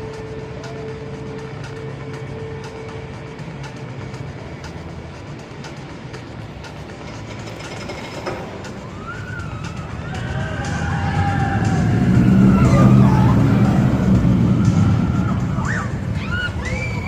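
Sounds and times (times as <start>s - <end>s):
amusement ride low rumble: 0.0s - 17.0s.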